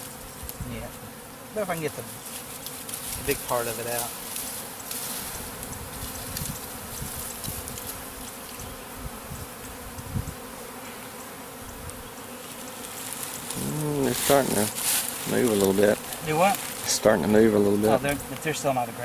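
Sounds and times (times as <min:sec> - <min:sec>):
bee swarm humming: 0:00.0 - 0:19.0.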